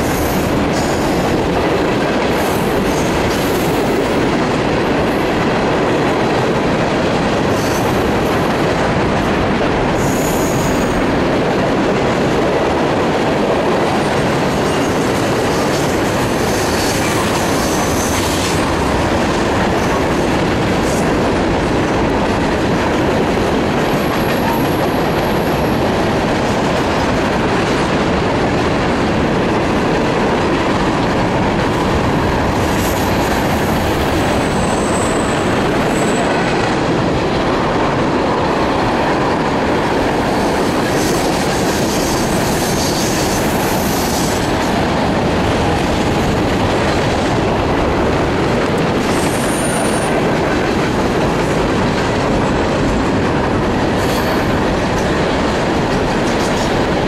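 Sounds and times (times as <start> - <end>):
steel wheels rumbling on rail: 0.0 - 57.0.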